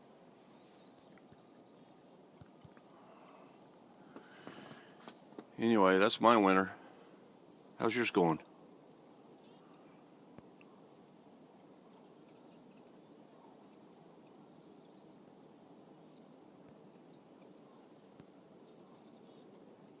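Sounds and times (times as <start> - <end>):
faint outdoor hush: 0.0 - 20.0.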